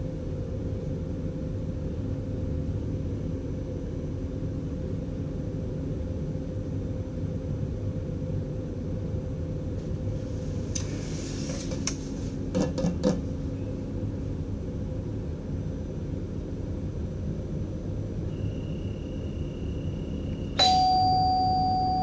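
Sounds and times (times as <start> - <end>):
train cab rumble and hum: 0.0 - 22.0.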